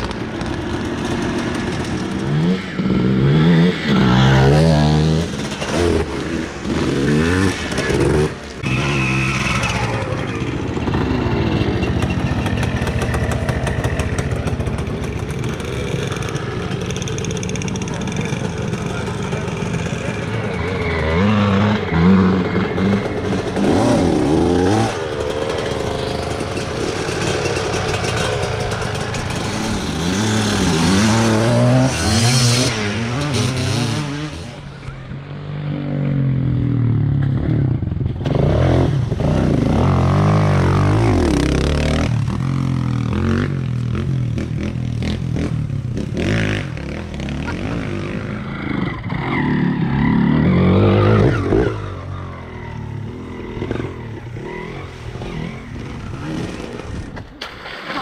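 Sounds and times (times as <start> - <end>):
dirt bike engine revving: 0.0 - 57.2.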